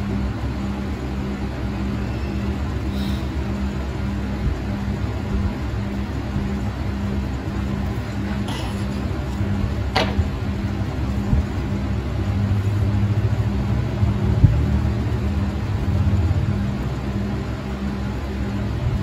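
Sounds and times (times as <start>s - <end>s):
low hum and rumble: 0.0s - 19.0s.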